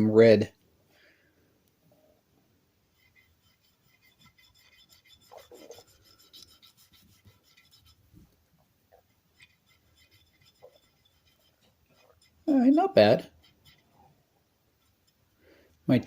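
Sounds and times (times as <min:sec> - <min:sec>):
faint rubbing strokes: 0:01.9 - 0:15.9.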